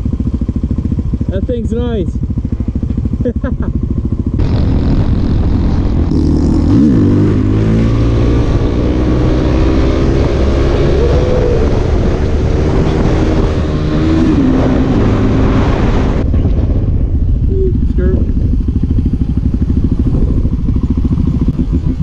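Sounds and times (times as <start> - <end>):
motorcycle engine accelerating: 0.0 - 22.0
wind noise rushing: 4.0 - 22.0.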